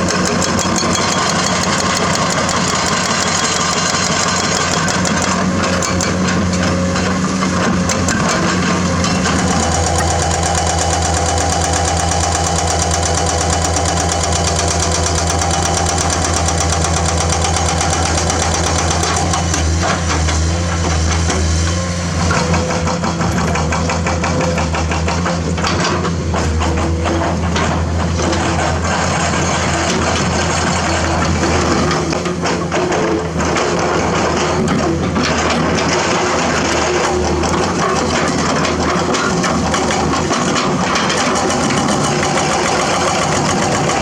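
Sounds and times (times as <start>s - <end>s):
clanks of metal and rock: 0.0s - 44.0s
excavator diesel engine running: 0.0s - 44.0s.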